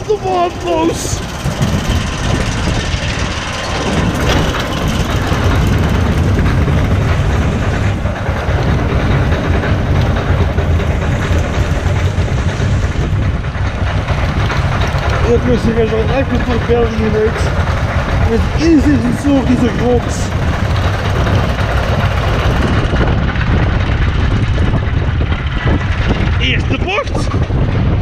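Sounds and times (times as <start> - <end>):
continuous low rumble: 0.0 - 28.0
roller coaster lift chain clattering: 0.0 - 28.0.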